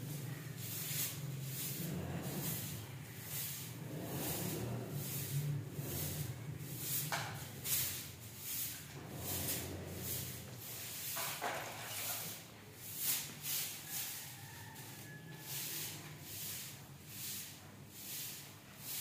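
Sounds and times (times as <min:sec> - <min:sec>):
broom sweeping stone floor: 0:00.0 - 0:19.0.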